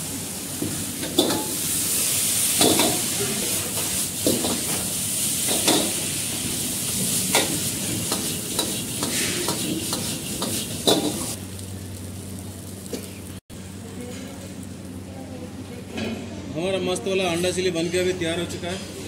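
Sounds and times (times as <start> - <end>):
food sizzling in a wok: 0.0 - 15.8.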